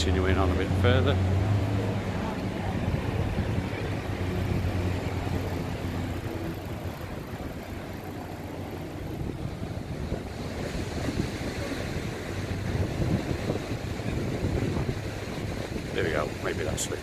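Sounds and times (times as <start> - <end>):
faint engine hum: 0.0 - 17.0
wind buffeting microphone: 0.0 - 17.0.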